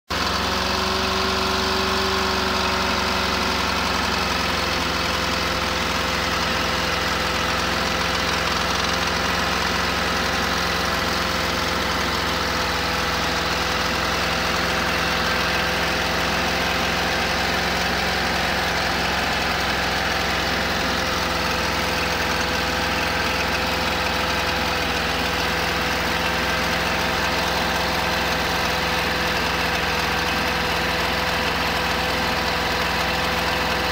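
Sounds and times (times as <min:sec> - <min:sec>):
engine idling with knock: 0:00.1 - 0:33.9.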